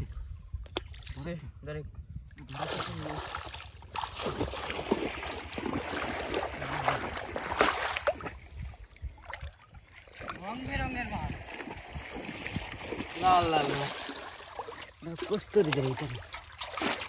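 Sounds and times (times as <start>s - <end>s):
pond water splashing and sloshing: 0.0s - 1.5s, 2.2s - 17.0s.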